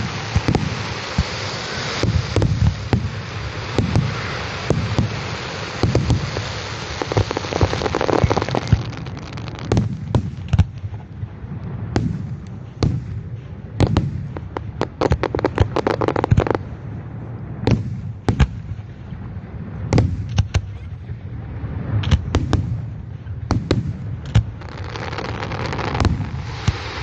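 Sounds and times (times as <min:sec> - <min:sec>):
fireworks bangs and pops: 0:00.0 - 0:27.0
fireworks booming and crackling: 0:00.0 - 0:27.0.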